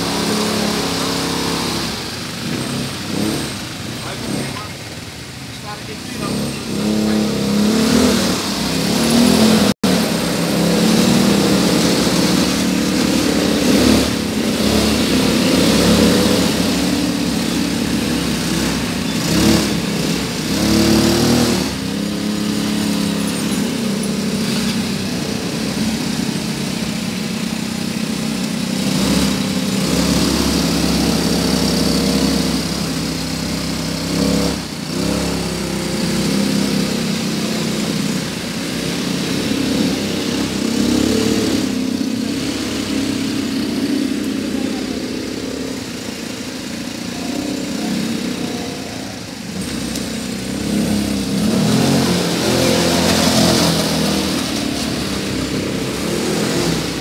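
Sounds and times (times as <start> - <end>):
quad bike engines revving: 0.0 - 57.0.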